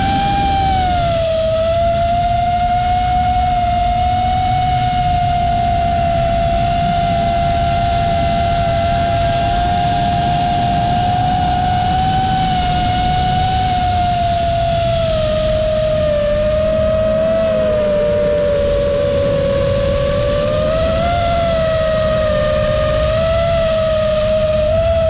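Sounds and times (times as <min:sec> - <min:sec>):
low rushing noise: 0:00.0 - 0:25.0
quadcopter propellers whining: 0:00.0 - 0:25.0.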